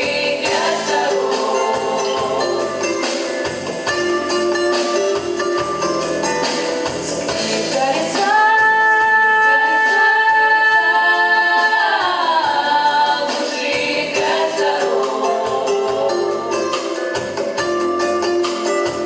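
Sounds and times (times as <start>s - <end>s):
vocal ensemble singing in harmony: 0.0s - 4.2s, 6.4s - 17.8s
band accompaniment: 0.0s - 19.0s.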